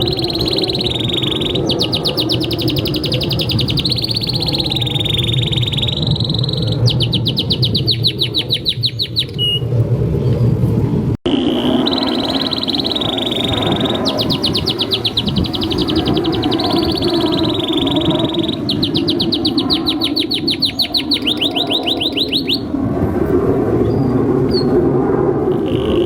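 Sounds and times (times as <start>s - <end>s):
canary singing: 0.0s - 9.7s, 11.3s - 22.7s.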